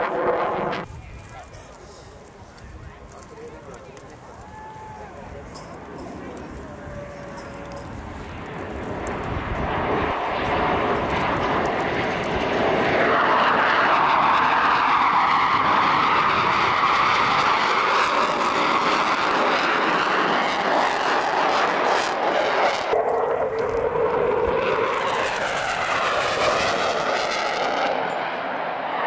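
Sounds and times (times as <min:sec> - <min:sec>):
fighter jets flying past: 0:00.0 - 0:29.0.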